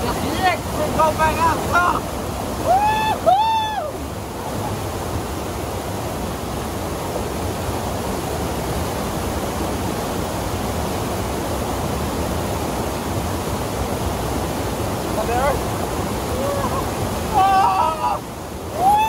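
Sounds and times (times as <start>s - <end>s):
water rushing over rapids: 0.0s - 19.0s.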